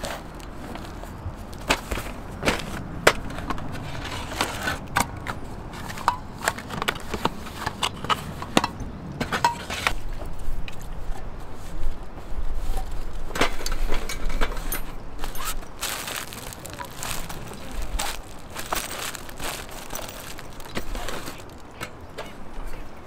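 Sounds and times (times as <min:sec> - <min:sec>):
gear knocking and rustling in crate: 0:00.0 - 0:10.0, 0:13.4 - 0:22.0.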